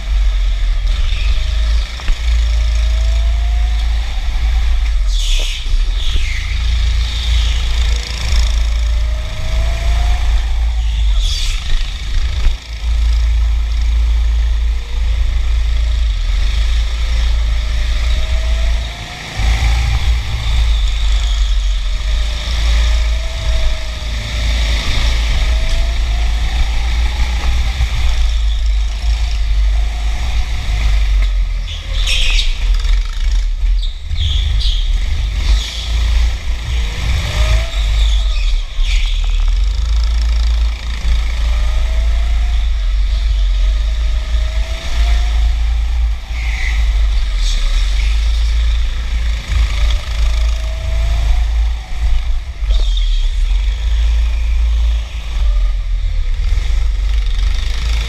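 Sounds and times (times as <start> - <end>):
go-kart motor: 0.0 - 58.0.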